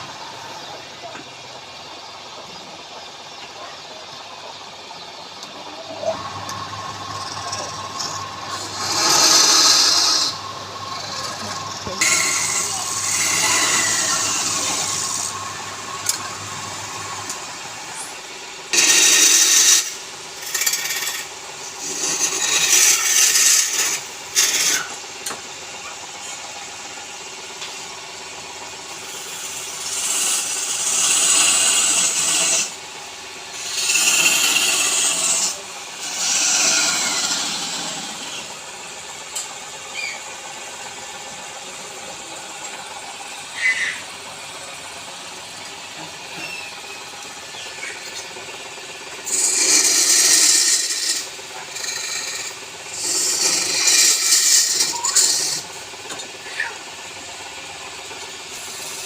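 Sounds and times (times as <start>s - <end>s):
tool scraping spinning wood: 0.0s - 59.0s
wood lathe humming: 0.0s - 59.0s.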